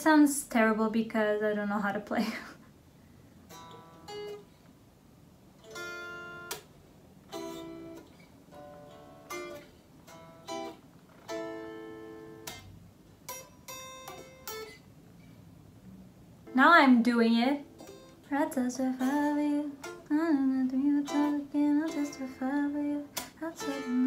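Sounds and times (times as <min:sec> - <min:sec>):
electric guitar played quietly: 0:03.3 - 0:24.0.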